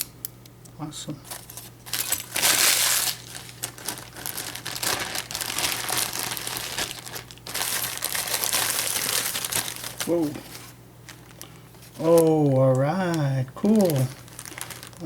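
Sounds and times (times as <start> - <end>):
packing material crumpling: 1.2 - 15.0.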